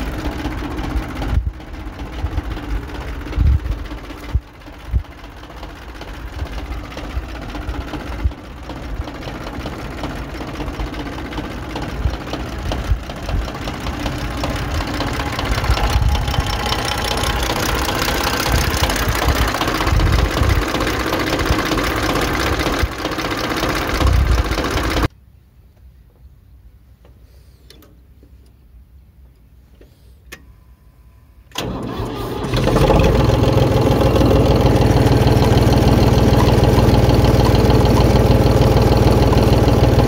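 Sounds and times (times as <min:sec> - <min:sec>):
diesel tractor engine clattering: 0:00.0 - 0:25.1, 0:31.5 - 0:40.0.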